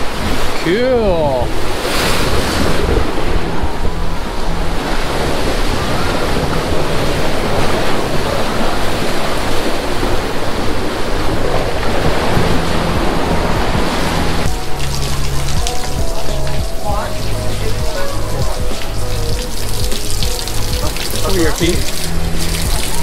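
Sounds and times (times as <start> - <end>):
ocean surf washing: 0.0 - 23.0
wind buffeting microphone: 0.0 - 23.0.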